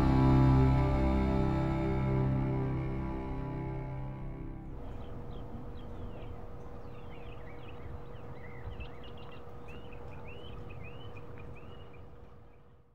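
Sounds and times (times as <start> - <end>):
low outdoor rumble: 0.0 - 12.6
birds chirping: 0.0 - 12.8
faint steady hum: 0.0 - 12.9.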